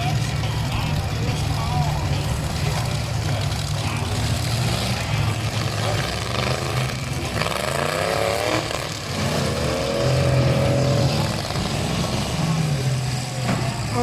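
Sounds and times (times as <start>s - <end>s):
engine revving up: 0.0s - 14.0s
truck engines rumbling: 0.0s - 14.0s.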